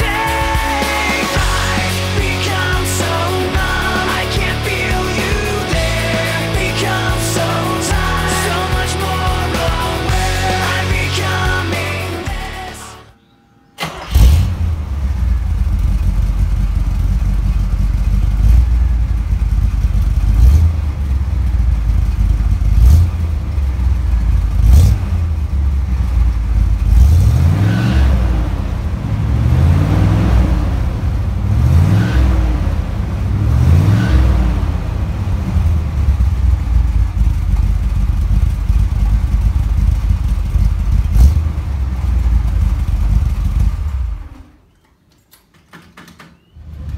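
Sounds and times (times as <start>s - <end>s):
vee eight engine revving: 0.0s - 13.1s, 13.8s - 44.5s.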